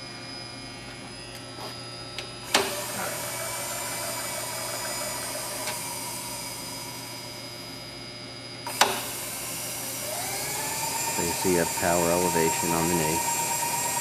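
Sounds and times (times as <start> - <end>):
feed motor running: 0.0 - 7.8, 8.6 - 14.0
low electrical hum: 0.0 - 14.0.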